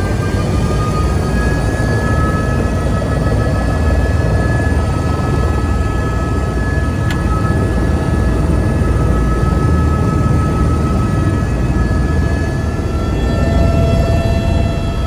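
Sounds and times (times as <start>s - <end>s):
helicopter rotor rumble: 0.0s - 15.0s
high-pitched engine whine: 0.0s - 15.0s.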